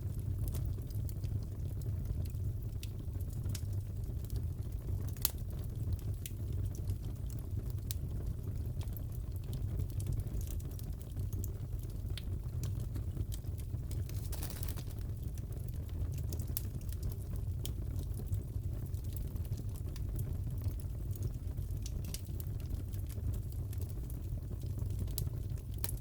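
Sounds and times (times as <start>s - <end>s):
fire popping and crackling: 0.0s - 26.0s
fire rumbling: 0.0s - 26.0s.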